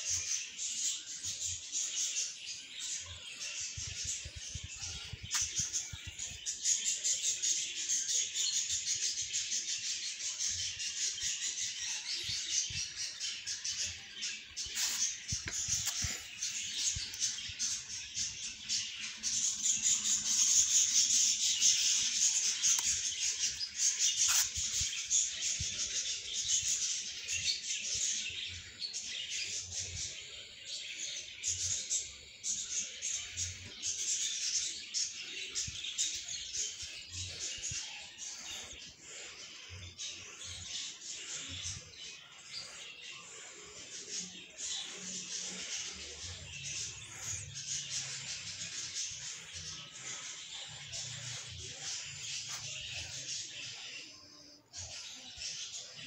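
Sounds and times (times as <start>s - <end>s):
budgies chirping and chattering: 0.0s - 56.0s.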